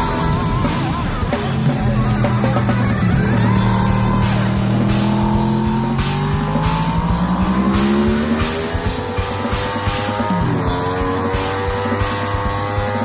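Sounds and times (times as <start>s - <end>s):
motorcycle engine revving up: 0.0s - 13.0s
rock music with drum beat: 0.0s - 13.0s.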